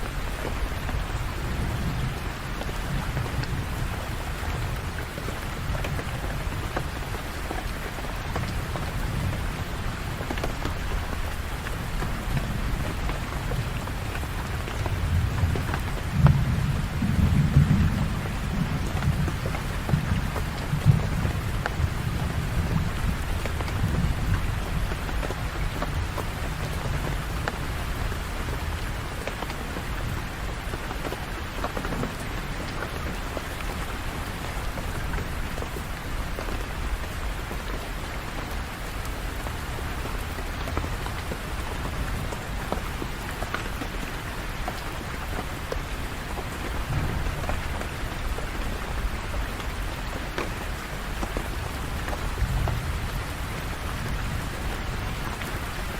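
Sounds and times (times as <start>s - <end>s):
low rumble of thunder: 0.0s - 37.7s, 44.9s - 55.9s
rain falling: 0.0s - 55.9s.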